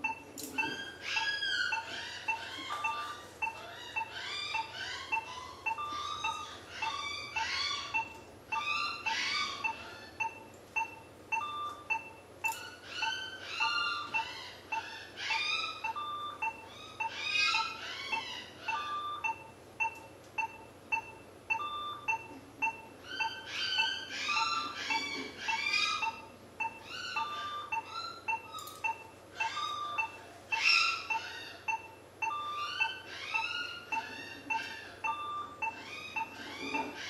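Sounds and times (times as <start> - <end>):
patient monitor beeping: 0.0 - 37.0.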